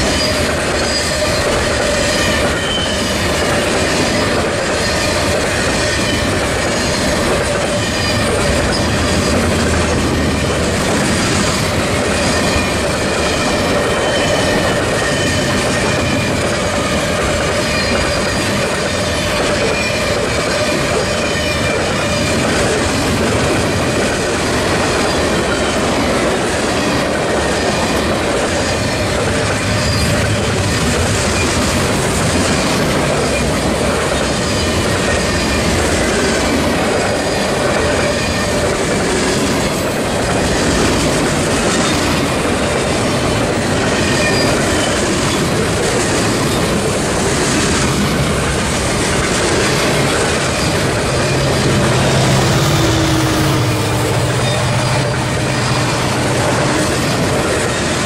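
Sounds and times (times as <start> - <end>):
high wheel squeal: 0.0 - 23.0, 26.8 - 38.8, 43.4 - 46.9, 48.5 - 58.0
train wheels clacking over rail joints: 0.0 - 58.0.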